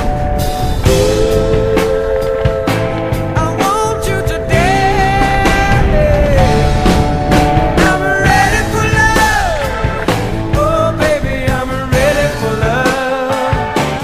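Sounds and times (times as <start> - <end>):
rock music: 0.0 - 14.0
sliding lead line: 0.0 - 14.0
drum beat: 0.8 - 14.0.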